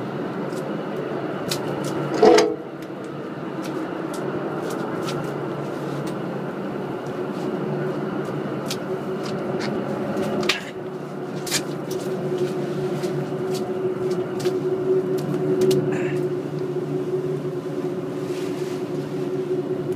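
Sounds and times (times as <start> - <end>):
ship machinery drone: 0.0 - 19.9.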